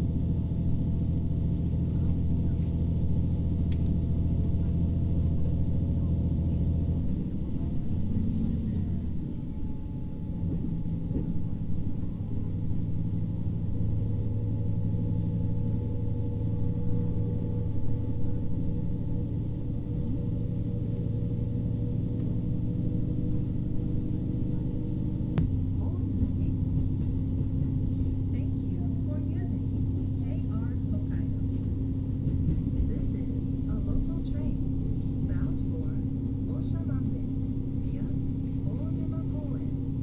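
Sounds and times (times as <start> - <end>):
railcar engine drone: 0.0 - 40.0
wheel and track rumble: 0.0 - 40.0.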